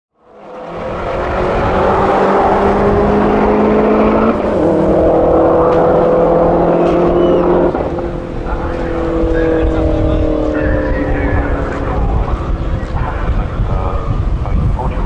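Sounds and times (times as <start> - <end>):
car engine running: 0.3 - 15.0.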